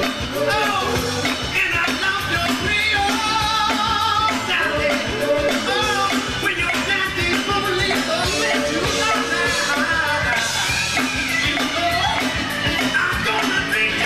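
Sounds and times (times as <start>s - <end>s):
bass guitar: 0.0s - 14.0s
drums: 0.0s - 14.0s
electric guitar: 0.0s - 14.0s
person singing: 0.0s - 14.0s.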